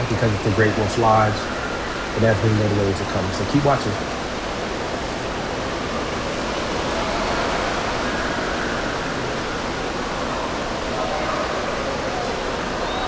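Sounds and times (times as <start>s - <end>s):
splashing and falling water: 0.0s - 13.0s.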